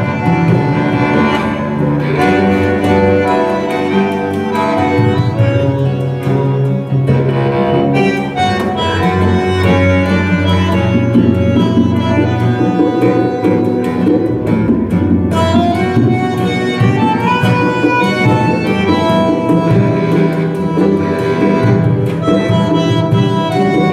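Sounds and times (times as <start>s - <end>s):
music over loudspeakers: 0.0s - 23.9s.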